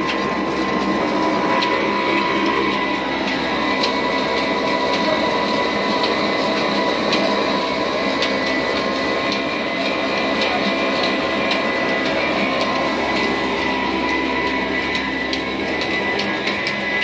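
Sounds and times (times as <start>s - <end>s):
diesel engine running: 0.0s - 17.0s
mill machinery whine: 0.0s - 17.0s.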